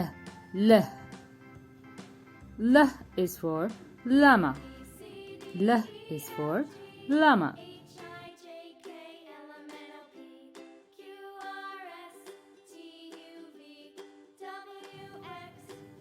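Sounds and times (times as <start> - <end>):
light children's background music: 0.0 - 16.0.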